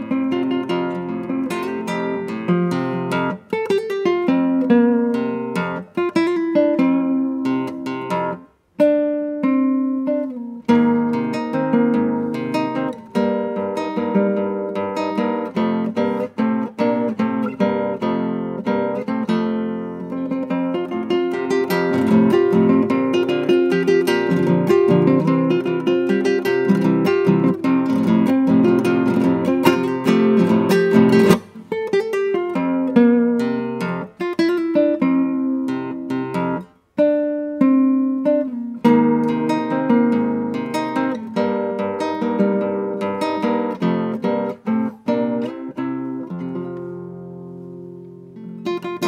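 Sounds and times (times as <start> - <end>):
classical guitar fingerstyle: 0.0 - 49.0.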